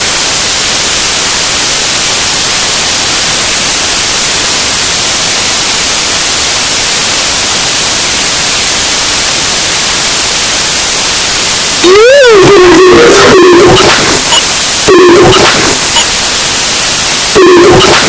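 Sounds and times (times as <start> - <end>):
white noise static hiss: 0.0 - 18.0.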